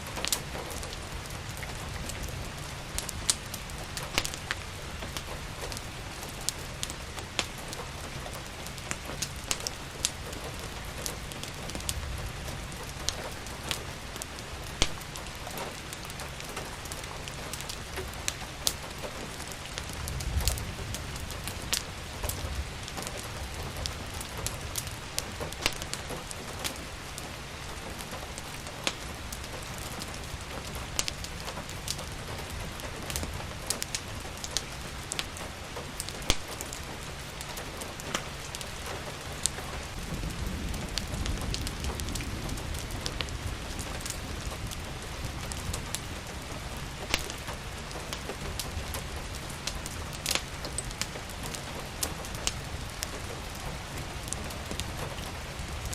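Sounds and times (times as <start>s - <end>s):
fireplace crackling and popping: 0.0s - 55.9s
steady rain falling: 0.0s - 55.9s.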